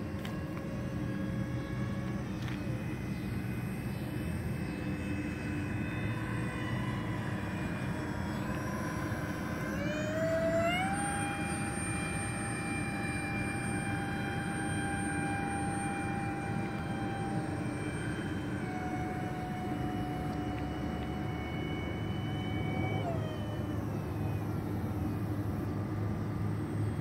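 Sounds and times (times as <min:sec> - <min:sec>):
electric ducted fans whining: 0:00.0 - 0:27.0.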